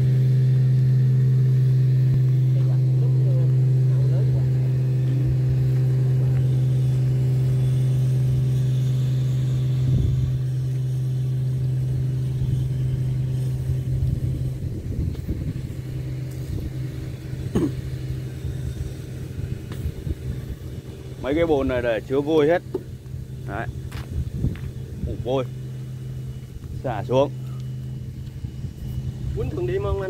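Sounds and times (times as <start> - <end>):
motor machinery humming: 0.0 - 30.0
uneven low rumble: 0.0 - 30.0.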